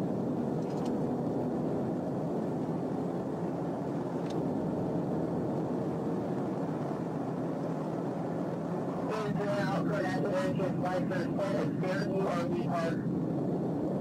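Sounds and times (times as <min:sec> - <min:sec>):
car engine tyre and wind noise: 0:00.0 - 0:14.0.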